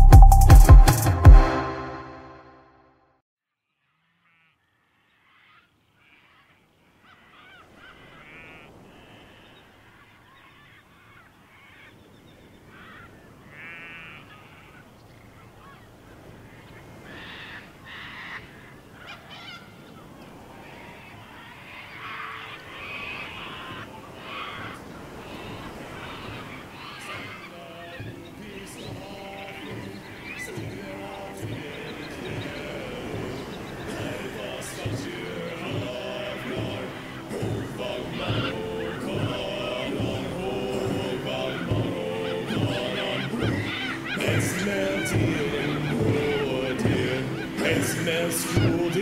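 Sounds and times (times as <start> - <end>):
birds honking and squawking: 4.2 - 49.0.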